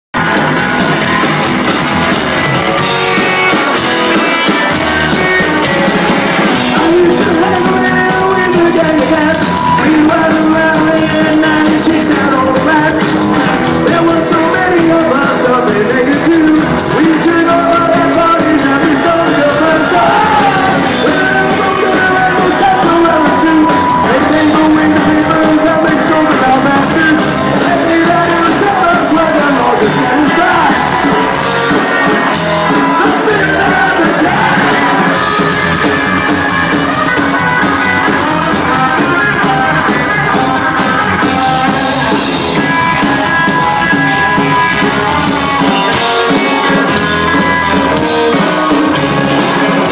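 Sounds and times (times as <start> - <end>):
drums: 0.0 - 49.9
upright bass: 0.1 - 49.9
electric guitar: 0.2 - 49.9.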